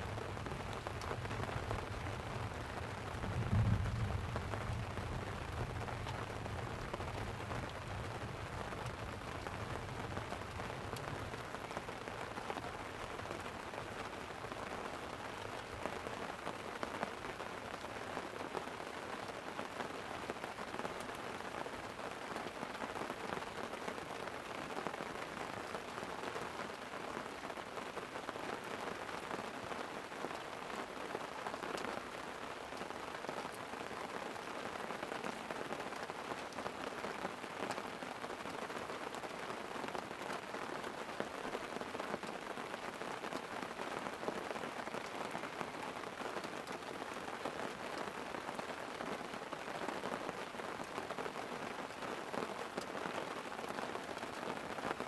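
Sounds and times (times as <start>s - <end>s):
light rain on a tent: 0.0s - 55.0s.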